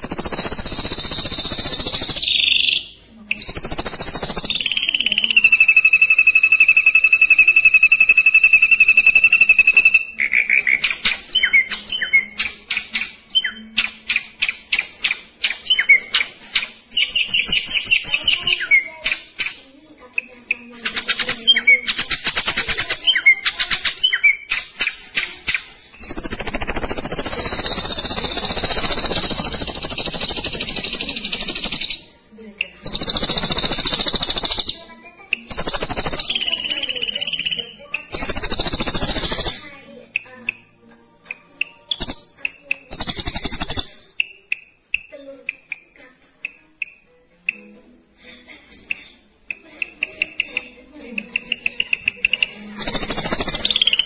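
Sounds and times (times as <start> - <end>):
bird singing varied song: 0.0 - 47.8, 49.5 - 54.0.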